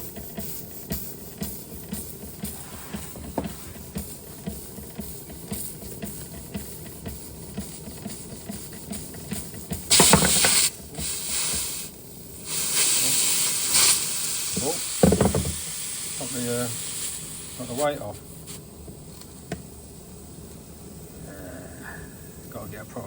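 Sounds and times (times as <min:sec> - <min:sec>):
toy steam engine chuffing: 0:00.0 - 0:18.6
steam hissing in bursts: 0:00.0 - 0:23.0.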